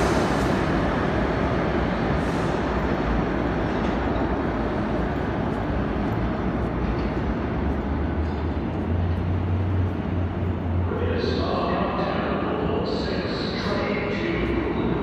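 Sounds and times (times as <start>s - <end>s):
subway train rumbling in tunnel: 0.0s - 15.0s.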